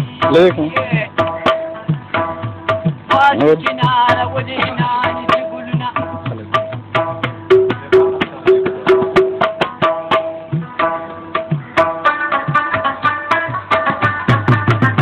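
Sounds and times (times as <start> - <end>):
clay-pot drum strokes: 0.0 - 15.0
plucked lute melody: 0.1 - 15.0.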